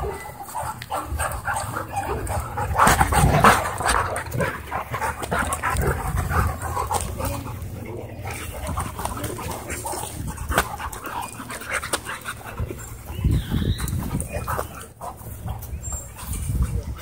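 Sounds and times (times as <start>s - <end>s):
dogs barking: 0.0s - 17.0s
dogs growling: 0.0s - 17.0s.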